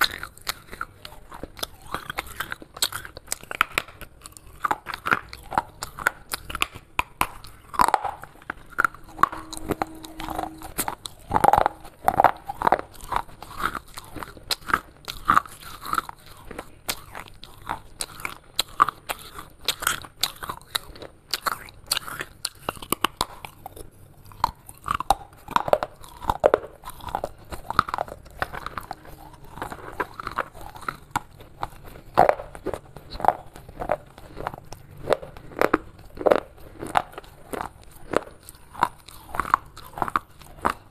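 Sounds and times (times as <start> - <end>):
person chewing pottery shards: 0.0 - 40.9.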